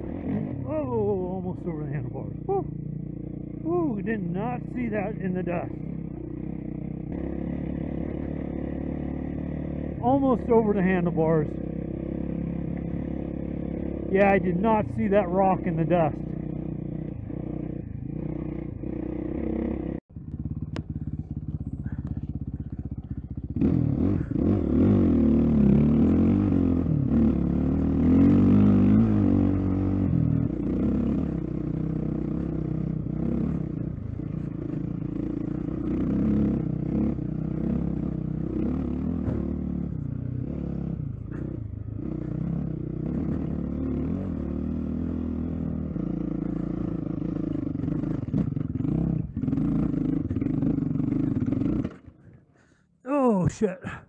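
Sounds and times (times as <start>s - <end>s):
dirt bike engine revving: 0.0s - 52.7s.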